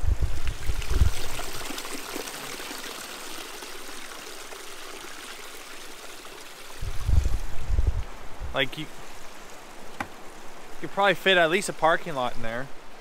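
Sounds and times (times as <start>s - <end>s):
creek trickling over rocks: 0.2s - 13.0s.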